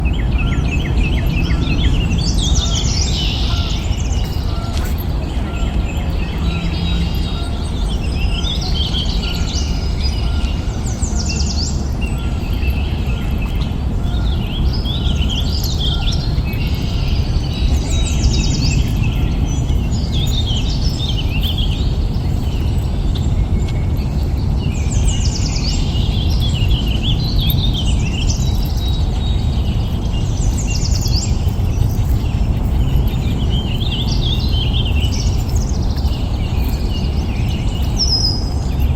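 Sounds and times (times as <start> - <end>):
birds singing: 0.0 - 38.9.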